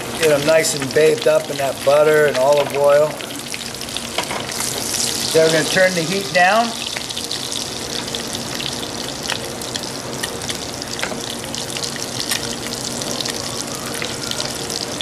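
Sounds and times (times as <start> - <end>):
lobster sizzling in butter: 0.0 - 15.0.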